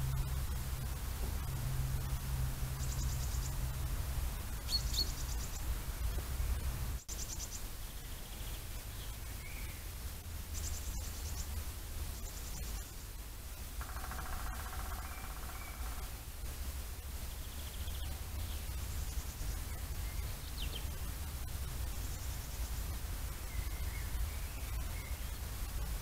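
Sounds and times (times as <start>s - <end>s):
low background rumble: 0.0s - 26.0s
songbirds trilling: 0.8s - 6.2s, 6.8s - 25.8s.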